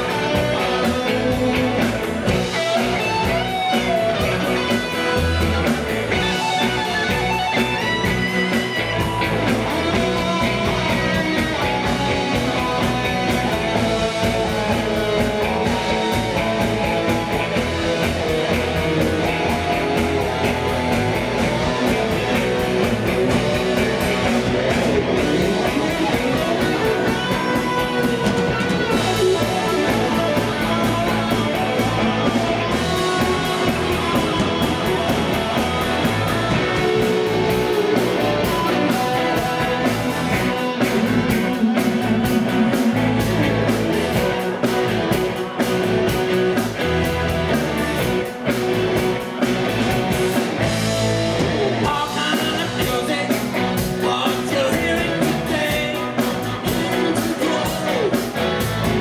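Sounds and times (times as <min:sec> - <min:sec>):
bass guitar: 0:00.0 - 0:59.0
drums: 0:00.0 - 0:59.0
electric guitar lead: 0:00.0 - 0:59.0.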